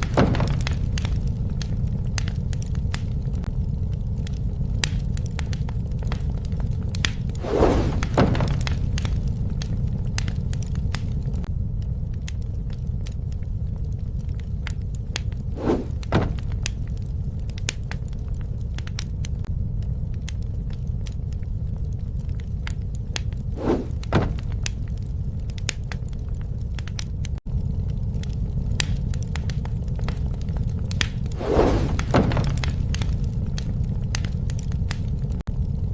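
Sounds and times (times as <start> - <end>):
steady low rumble: 0.0 - 35.9
wood fire crackling and popping: 0.0 - 35.9.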